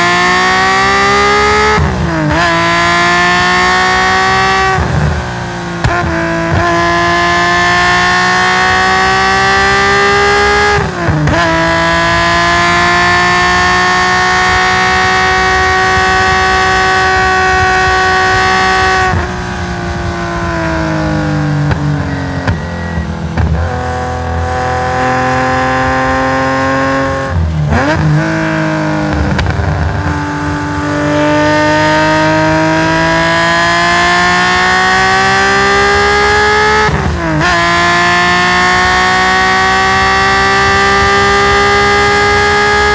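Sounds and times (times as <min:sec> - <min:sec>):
racing car engine revving: 0:00.0 - 0:42.9.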